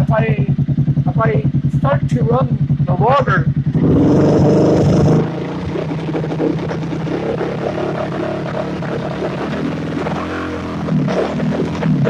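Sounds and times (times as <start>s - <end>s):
engine running with uneven pulsing: 0.0s - 12.0s.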